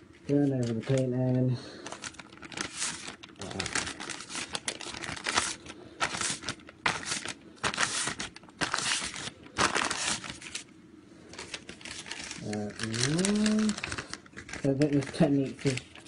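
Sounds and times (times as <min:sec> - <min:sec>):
paper crinkling and rustling: 0:00.1 - 0:16.0.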